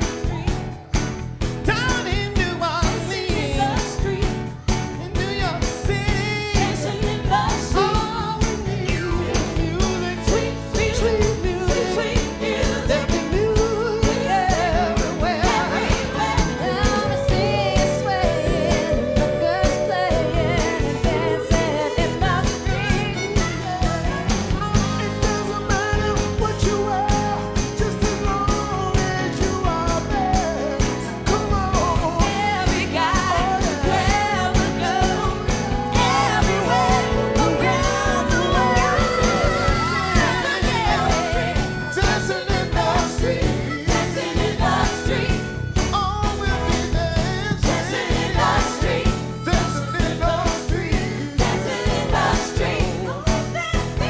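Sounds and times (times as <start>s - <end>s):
drum beat: 0.0s - 54.0s
lead and backing vocals: 0.0s - 54.0s.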